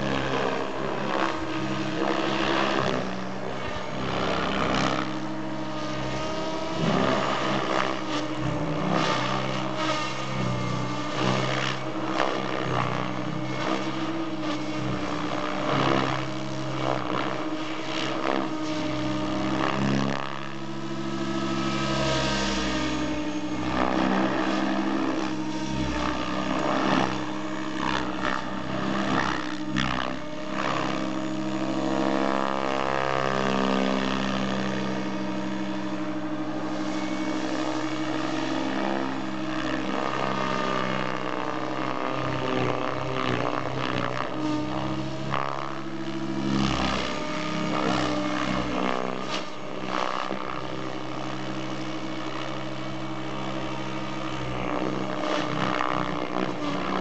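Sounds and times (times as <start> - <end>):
rc helicopter rotor and motor hum: 0.0 - 57.0.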